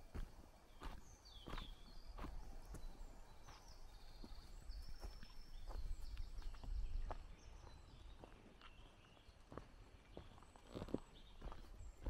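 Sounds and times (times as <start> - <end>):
footsteps on forest path: 0.0 - 12.0
songbirds singing: 0.0 - 12.0.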